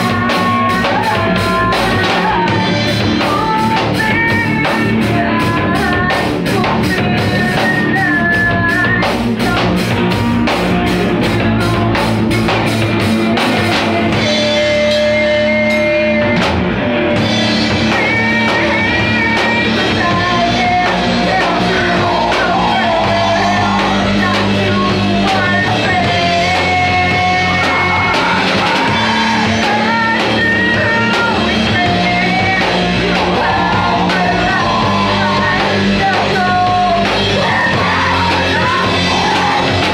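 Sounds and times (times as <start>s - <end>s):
rock song with sung vocals: 0.0s - 39.9s.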